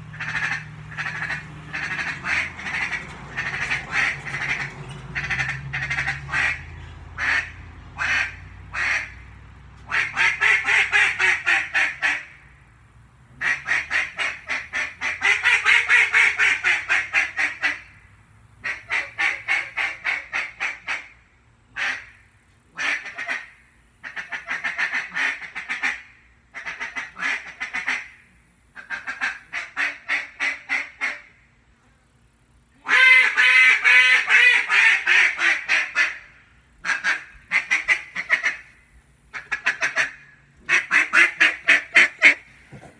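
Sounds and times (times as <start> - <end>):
duck call quacks: 0.0 - 9.2, 9.9 - 12.4, 13.4 - 18.0, 18.6 - 21.2, 21.8 - 31.4, 32.8 - 42.9.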